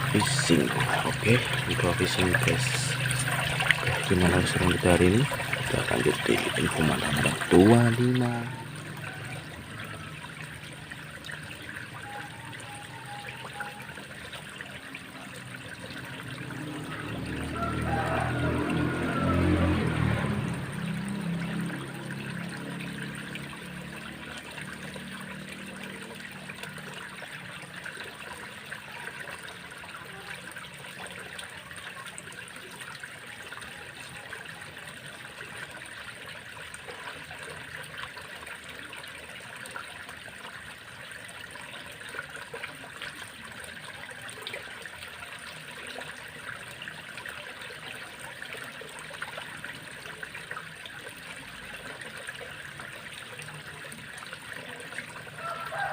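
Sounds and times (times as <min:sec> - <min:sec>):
water trickling in a stream: 0:00.0 - 0:55.9.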